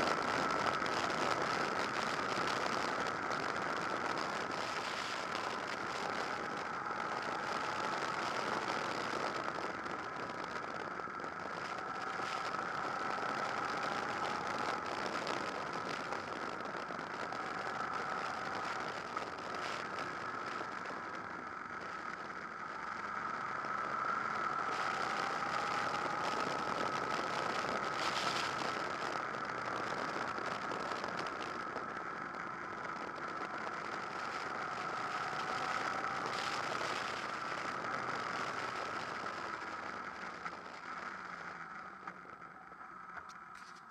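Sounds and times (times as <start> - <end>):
motorcycle engine droning: 0.0 - 43.9.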